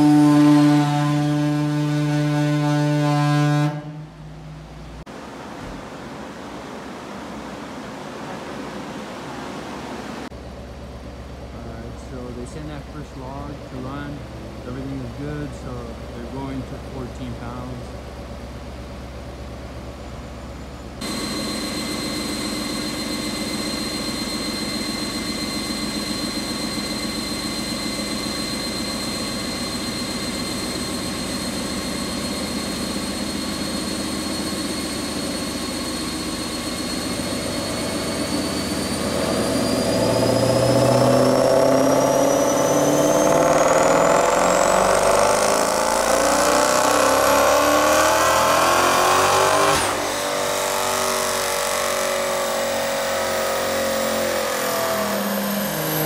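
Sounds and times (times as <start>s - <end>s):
car engine revving on dyno: 0.0s - 5.1s, 11.6s - 18.1s, 21.0s - 56.0s
high whine of rollers: 0.0s - 56.0s.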